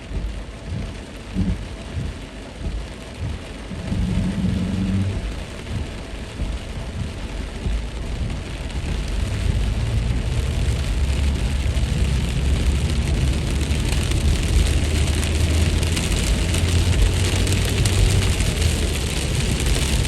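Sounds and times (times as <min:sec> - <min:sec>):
deep low rumble: 0:00.0 - 0:20.0
heavy rain: 0:00.0 - 0:20.0.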